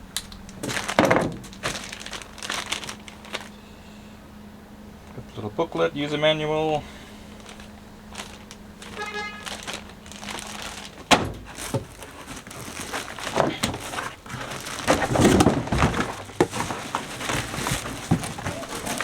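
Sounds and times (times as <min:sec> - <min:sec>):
packaging crinkling and rustling: 0:00.2 - 0:03.6, 0:07.2 - 0:19.0.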